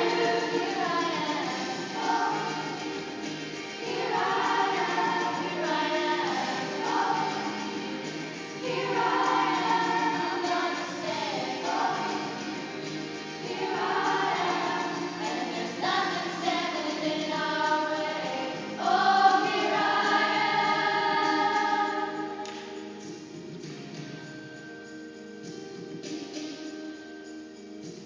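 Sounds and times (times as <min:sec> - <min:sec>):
choir singing: 0:00.0 - 0:22.7.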